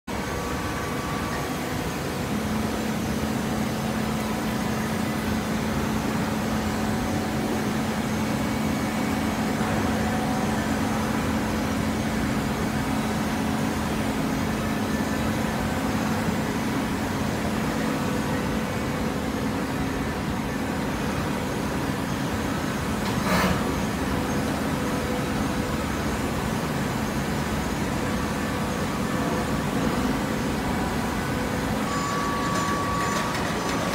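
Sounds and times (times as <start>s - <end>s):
baler machine hum: 0.1s - 33.9s.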